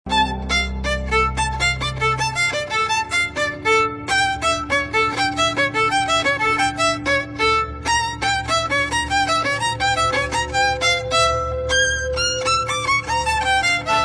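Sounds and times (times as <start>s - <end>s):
fast violin melody: 0.1s - 14.0s.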